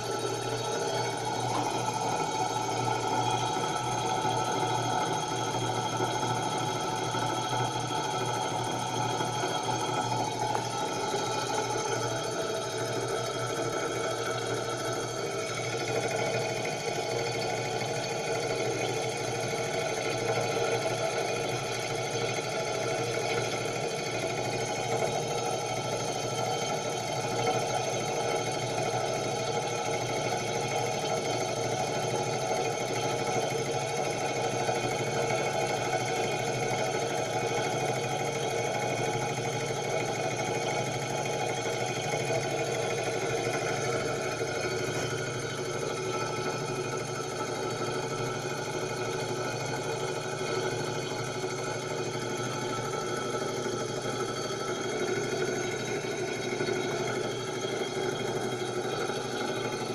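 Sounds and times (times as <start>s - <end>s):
hot air engine running: 0.0s - 59.9s.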